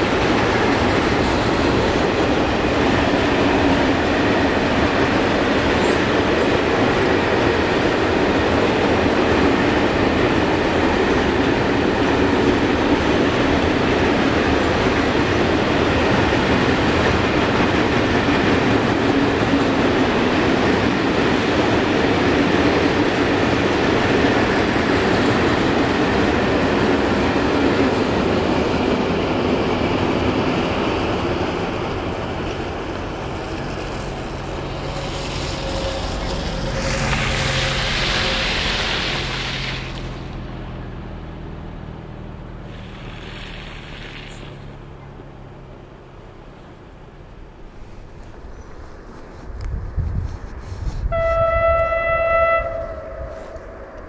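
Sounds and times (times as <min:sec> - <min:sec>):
train wheels on rails: 0:00.0 - 0:41.0, 0:47.4 - 0:54.0.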